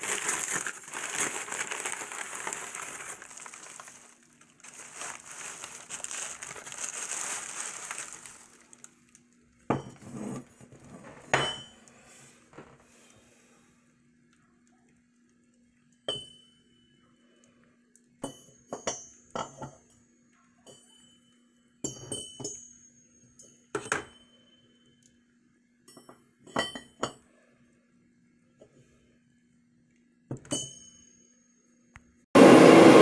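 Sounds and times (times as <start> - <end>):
faint steady hum: 0.0 - 32.2.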